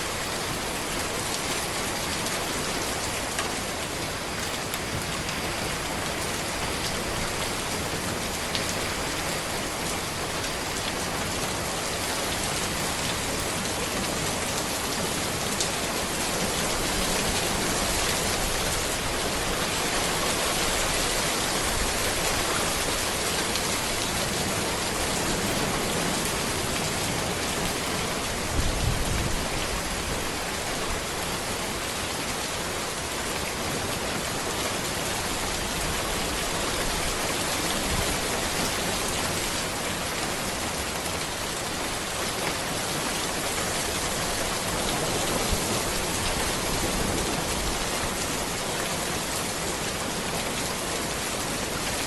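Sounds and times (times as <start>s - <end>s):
rain falling on a road: 0.0s - 52.0s.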